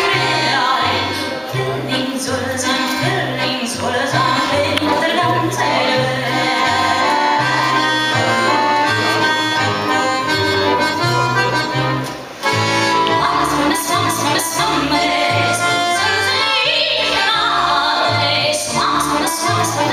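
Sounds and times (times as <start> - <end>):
accordion melody: 0.0 - 19.9
double bass notes: 0.0 - 19.9.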